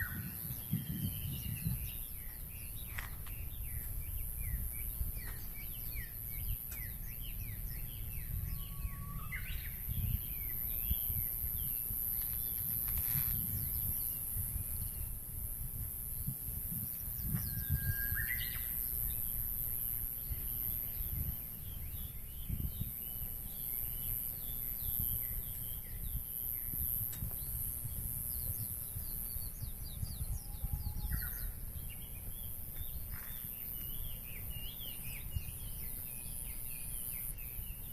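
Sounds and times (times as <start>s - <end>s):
wind rumble on microphone: 0.0s - 37.9s.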